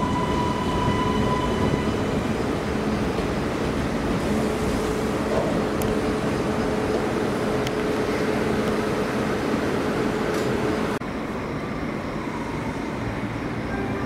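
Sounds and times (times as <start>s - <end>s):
electric train running past: 0.0s - 14.0s
railway yard noise: 0.0s - 14.0s.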